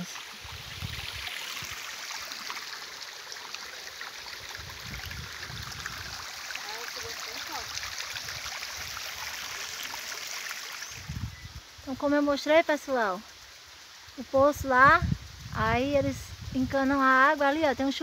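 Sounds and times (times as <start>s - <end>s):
stream trickling over stones: 0.0s - 18.0s.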